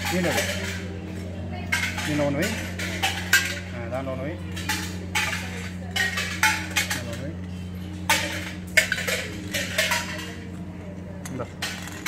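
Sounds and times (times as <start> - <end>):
beads clinking into brass pots: 0.0 - 12.0.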